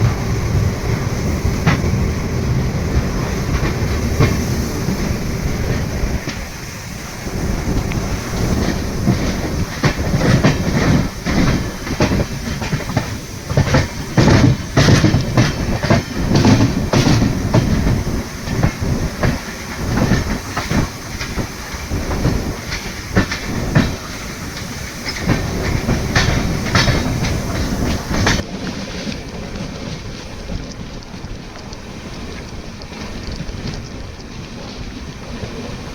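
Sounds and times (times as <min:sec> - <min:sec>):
wheels knocking over rail joints: 0:00.0 - 0:29.9
train rumble on rails: 0:00.0 - 0:35.9.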